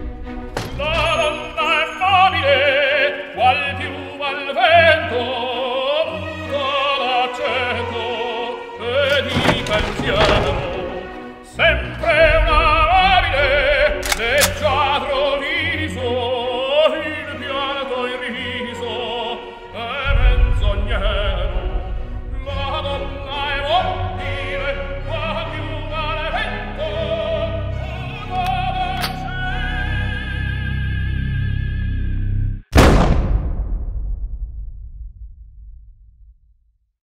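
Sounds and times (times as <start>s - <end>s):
operatic singing: 0.0s - 32.1s
orchestra: 0.0s - 32.2s.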